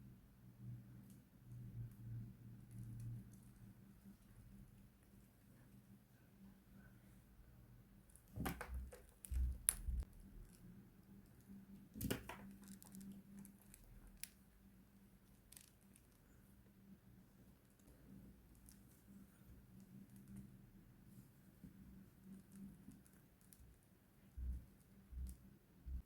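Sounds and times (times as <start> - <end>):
faint room hum: 0.0 - 26.0.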